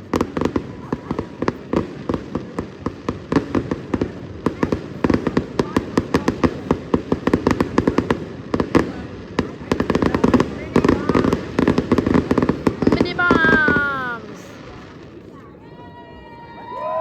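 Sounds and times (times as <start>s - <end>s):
fireworks cracking and popping: 0.0s - 16.8s.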